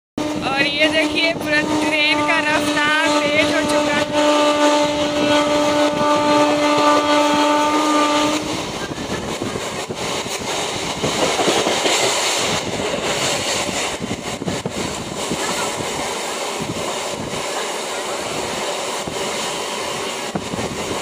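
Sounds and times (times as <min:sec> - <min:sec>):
train wheels on rail: 0:00.2 - 0:21.0
rushing air: 0:02.8 - 0:21.0.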